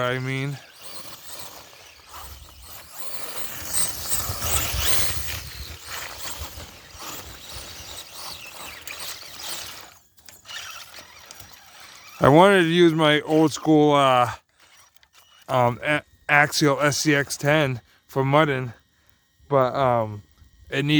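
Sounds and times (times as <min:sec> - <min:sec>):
electric rc truck motor: 0:00.0 - 0:20.9.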